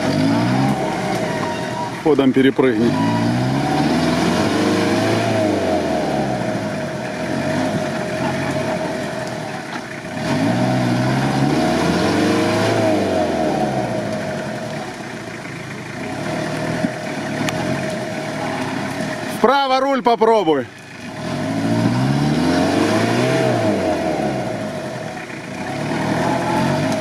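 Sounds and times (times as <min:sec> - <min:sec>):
engine revving hard: 0:00.0 - 0:14.9, 0:16.0 - 0:19.5, 0:21.0 - 0:27.0
tyres spinning in mud: 0:00.0 - 0:27.0.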